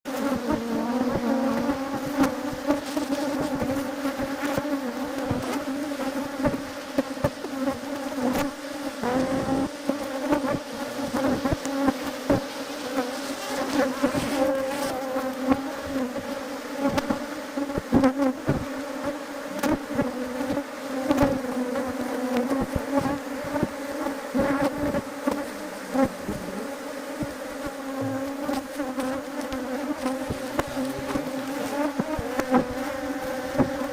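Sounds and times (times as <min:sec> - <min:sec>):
honeybees buzzing: 0:00.1 - 0:33.9.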